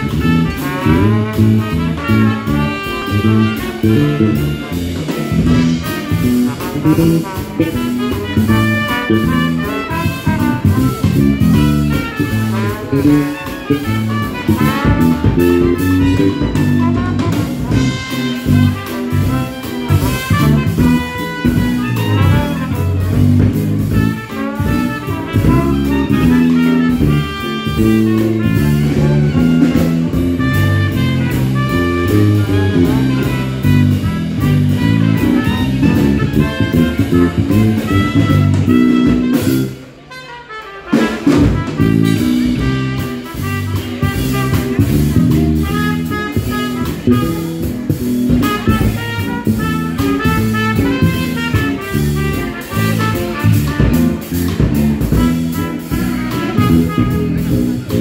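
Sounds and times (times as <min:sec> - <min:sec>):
jazz band playing: 0:00.0 - 0:58.0.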